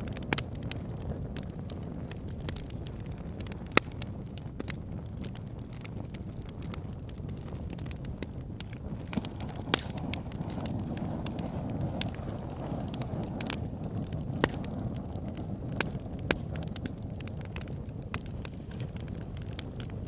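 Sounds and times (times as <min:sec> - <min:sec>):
logs crackling and popping: 0:00.0 - 0:20.0
rumble of flames: 0:00.0 - 0:20.0.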